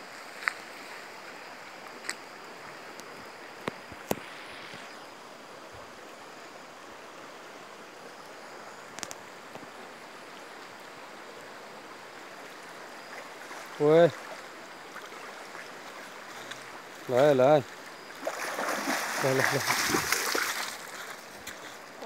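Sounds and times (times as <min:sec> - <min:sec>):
shallow stream flowing: 0:00.0 - 0:22.0.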